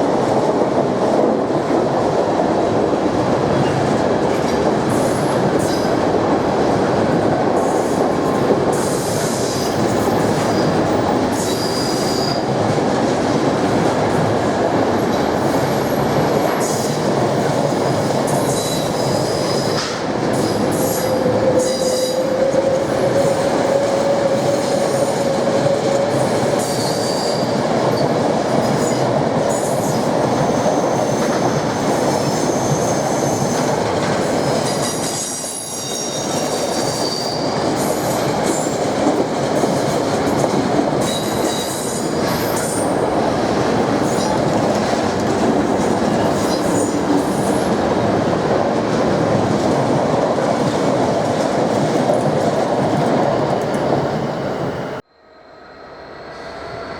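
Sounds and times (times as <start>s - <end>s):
train wheels rumbling on track: 0.0s - 55.1s.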